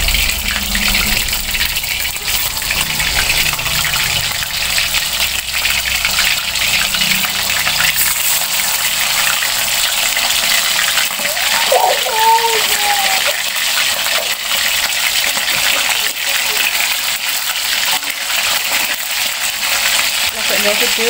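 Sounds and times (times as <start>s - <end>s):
chicken deep-frying in hot oil: 0.0s - 21.0s.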